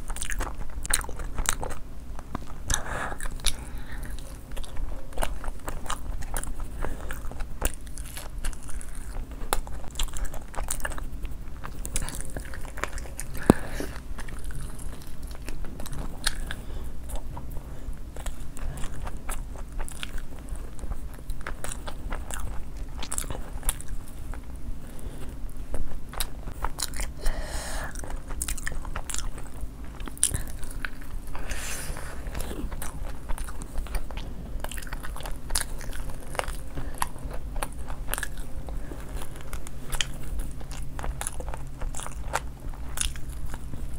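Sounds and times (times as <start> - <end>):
biting and chewing food: 0.0 - 43.9.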